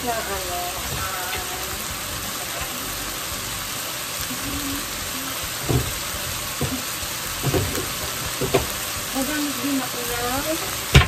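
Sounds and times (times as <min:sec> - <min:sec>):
food sizzling in oil: 0:00.0 - 0:11.0
low thumps: 0:00.0 - 0:11.0.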